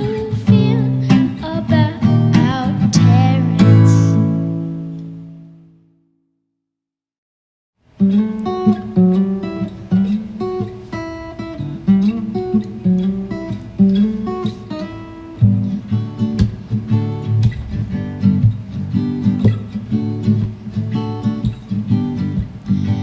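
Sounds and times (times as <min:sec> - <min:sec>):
acoustic guitar strumming chords: 0:00.0 - 0:06.0, 0:08.0 - 0:23.0.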